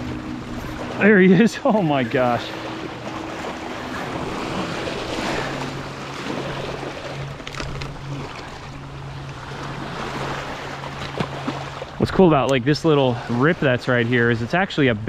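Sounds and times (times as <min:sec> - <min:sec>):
low hum: 0:00.0 - 0:15.0
waves lapping over rocks: 0:00.0 - 0:15.0.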